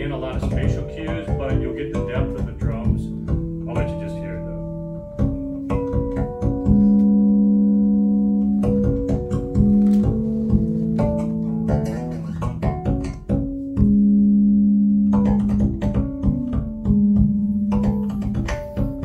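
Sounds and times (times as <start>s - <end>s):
instrumental music over loudspeakers: 0.0s - 19.0s.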